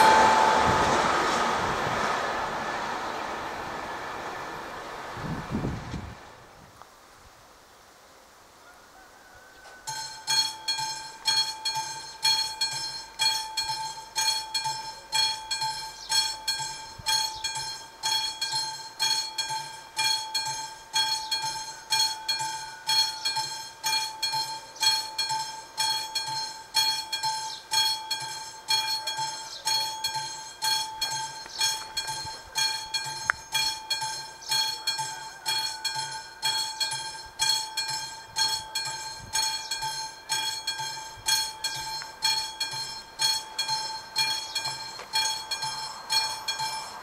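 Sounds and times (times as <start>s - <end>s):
level crossing bell ringing: 0.0s - 1.9s, 9.8s - 47.0s.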